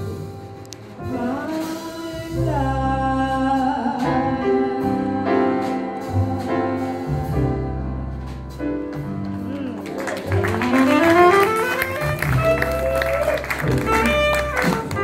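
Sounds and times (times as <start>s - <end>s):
double bass: 0.0s - 15.0s
piano: 0.0s - 15.0s
woman singing jazz: 0.0s - 15.0s.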